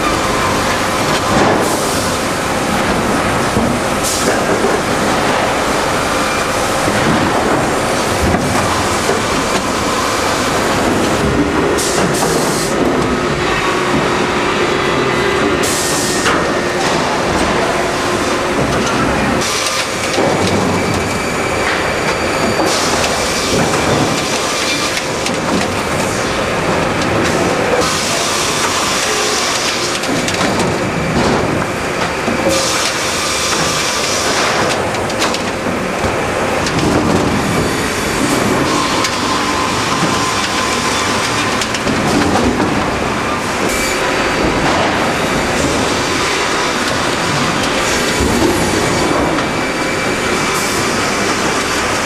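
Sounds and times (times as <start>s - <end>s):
sawmill machinery running: 0.0s - 52.0s.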